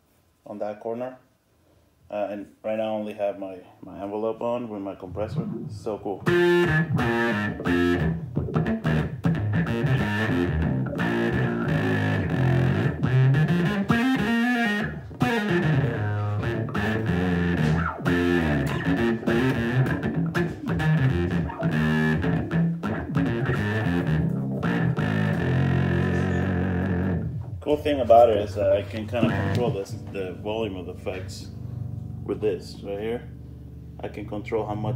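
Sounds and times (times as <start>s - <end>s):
electric bass with auto-wah: 5.1s - 34.9s.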